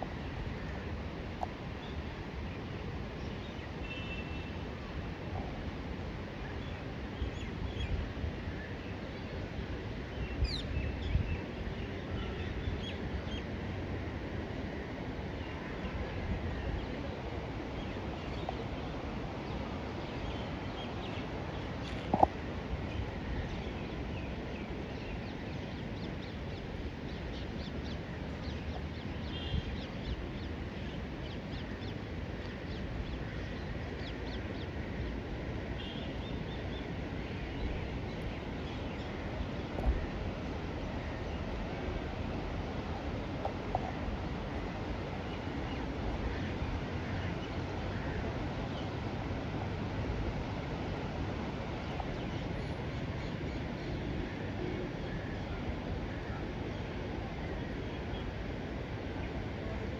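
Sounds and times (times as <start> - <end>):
wind rumble on microphone: 4.4 - 59.9.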